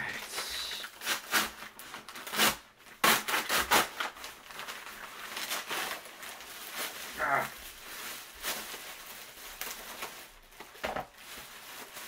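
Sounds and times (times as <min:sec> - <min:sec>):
paper package tearing and crumpling: 0:00.0 - 0:12.0.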